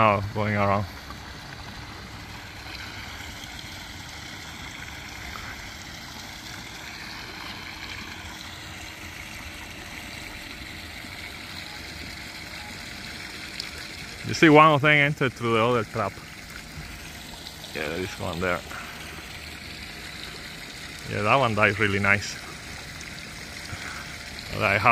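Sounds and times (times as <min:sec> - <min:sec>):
outdoor background rush: 0:00.0 - 0:24.9.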